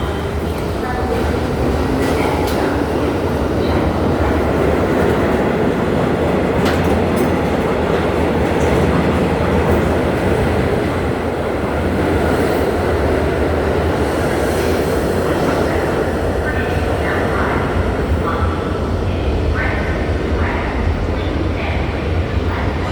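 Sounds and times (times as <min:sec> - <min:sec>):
subway train rumbling on track: 0:00.0 - 0:22.9.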